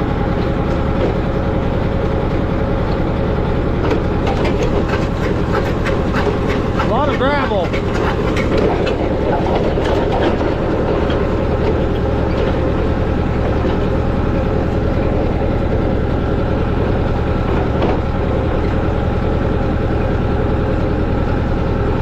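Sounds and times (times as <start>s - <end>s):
auger boring into gravelly ground: 0.0s - 19.2s
tractor engine running: 0.0s - 22.0s.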